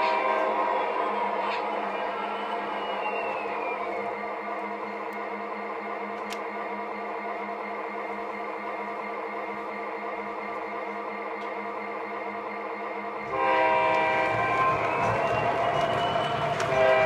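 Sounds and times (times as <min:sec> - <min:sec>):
model locomotive diesel engine sound: 0:00.0 - 0:17.0.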